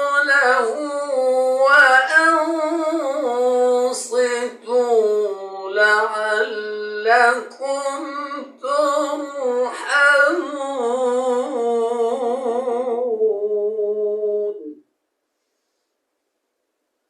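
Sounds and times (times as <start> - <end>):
person chanting recitation: 0.0 - 14.8.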